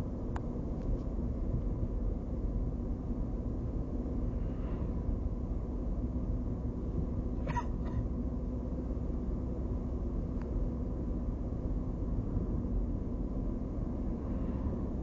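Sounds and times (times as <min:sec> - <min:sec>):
car cabin engine and road noise: 0:00.0 - 0:15.0.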